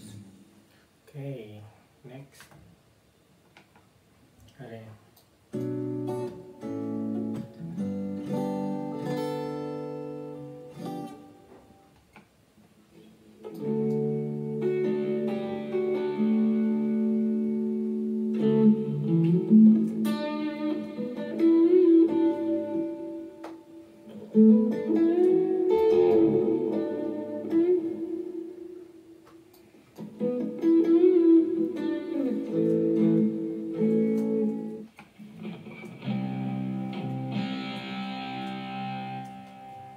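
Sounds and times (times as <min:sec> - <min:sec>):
guitar through speaker: 0:05.5 - 0:12.2, 0:12.9 - 0:39.9.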